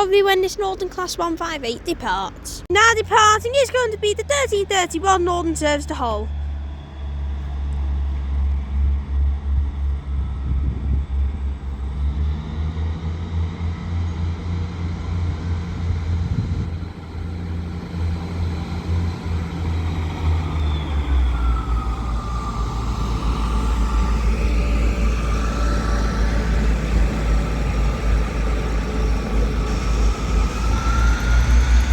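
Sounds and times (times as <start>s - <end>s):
train diesel engine drone: 0.0s - 31.9s
gliding engine whine: 0.8s - 31.9s.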